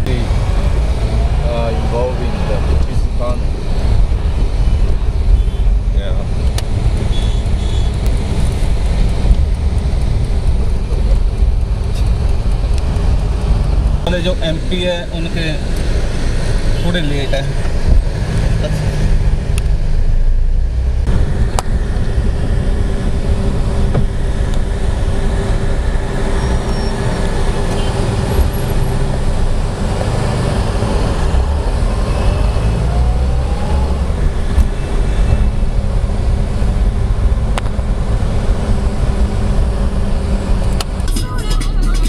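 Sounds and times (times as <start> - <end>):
car engine and tyres rumbling: 0.0 - 42.0
city traffic noise: 0.0 - 42.0.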